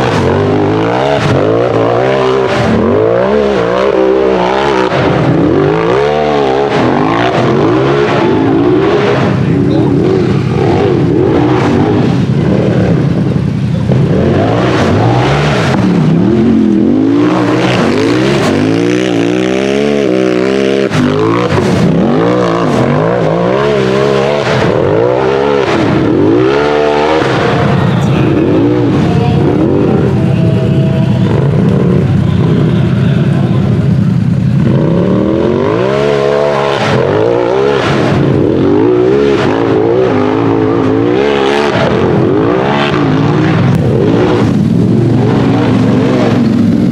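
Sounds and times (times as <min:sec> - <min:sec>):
buggy engine revving: 0:00.0 - 0:46.9.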